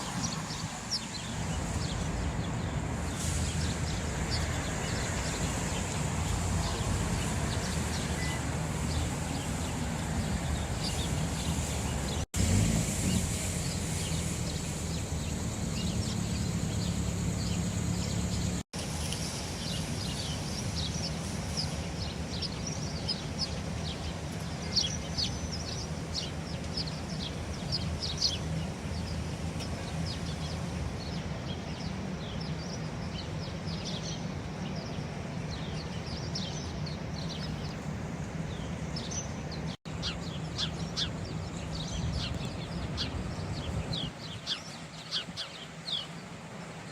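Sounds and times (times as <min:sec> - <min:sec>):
low rumble of city noise: 0:00.0 - 0:46.9
sparrows chirping: 0:00.0 - 0:46.9.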